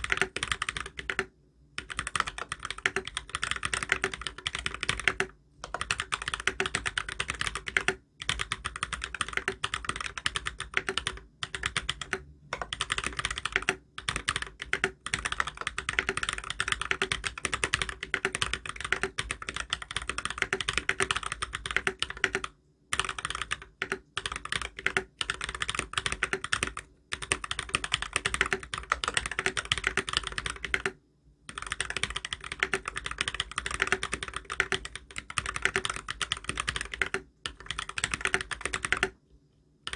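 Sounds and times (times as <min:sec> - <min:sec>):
mechanical keyboard typing: 0:00.0 - 0:39.2.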